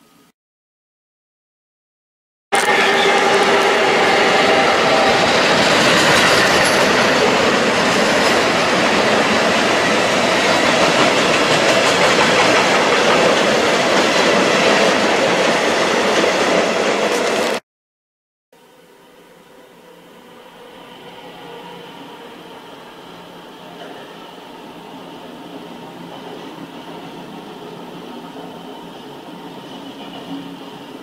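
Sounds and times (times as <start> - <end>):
train wheels rushing on rails: 2.6 - 17.6, 19.8 - 31.0.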